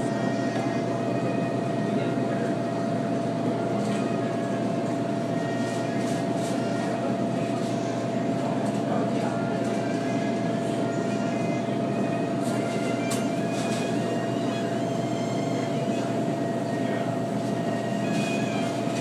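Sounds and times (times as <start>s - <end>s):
machine hum with whining tone: 0.0s - 19.0s.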